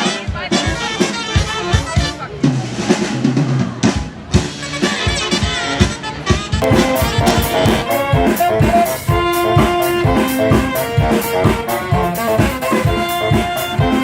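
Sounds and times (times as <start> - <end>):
jazzy brass band music: 0.0 - 3.1, 4.4 - 14.0.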